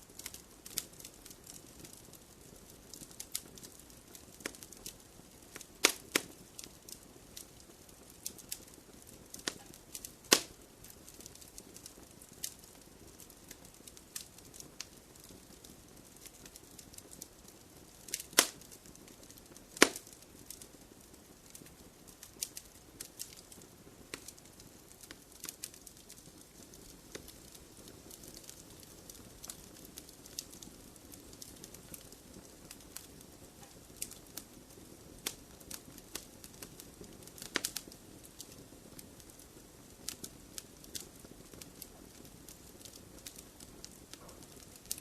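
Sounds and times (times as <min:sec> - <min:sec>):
steady rush of flame: 0:00.0 - 0:45.0
wood fire crackling: 0:00.0 - 0:45.0.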